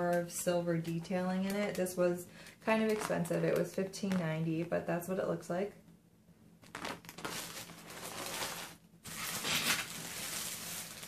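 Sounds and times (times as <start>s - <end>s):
rustling and handling noise: 0.0s - 4.6s, 6.6s - 11.0s.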